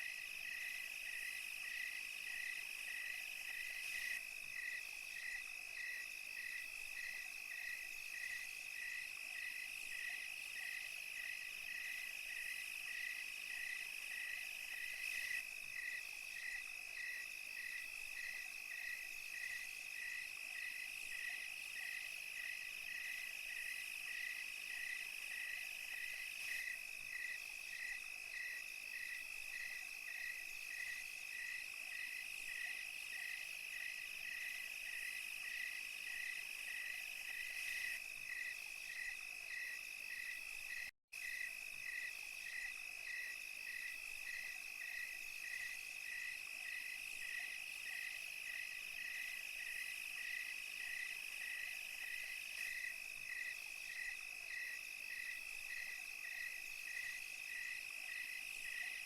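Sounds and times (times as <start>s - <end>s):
crickets chirping: 0.0s - 59.0s
insects trilling: 0.0s - 59.0s.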